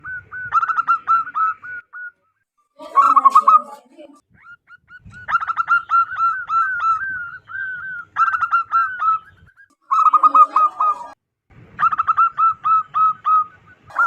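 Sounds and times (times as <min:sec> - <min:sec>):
dove cooing: 0:00.0 - 0:02.2, 0:02.9 - 0:03.7, 0:04.4 - 0:11.2, 0:11.8 - 0:14.0.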